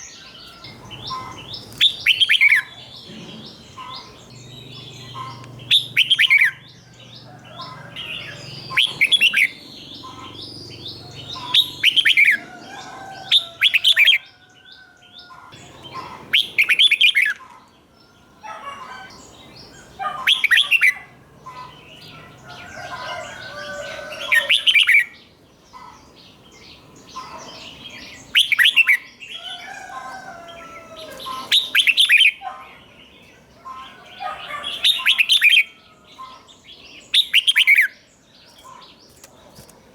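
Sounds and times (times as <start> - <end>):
bird singing warbled phrases: 0.0 - 39.9.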